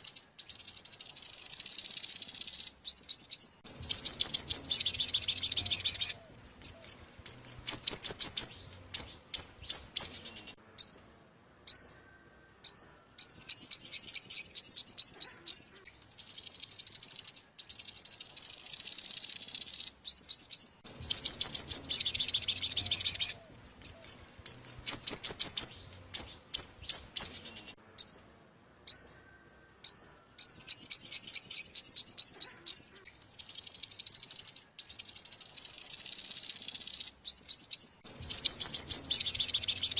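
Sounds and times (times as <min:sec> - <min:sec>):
bird song rapid trills: 0:00.0 - 0:39.9.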